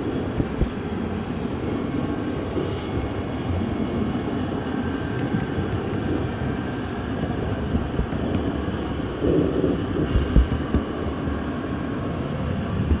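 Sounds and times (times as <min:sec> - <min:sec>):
moving train rumbling: 0:00.0 - 0:13.0.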